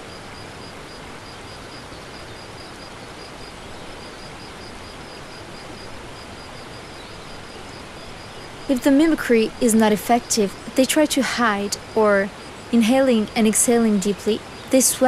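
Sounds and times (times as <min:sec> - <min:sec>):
even outdoor hiss: 0:00.0 - 0:15.0.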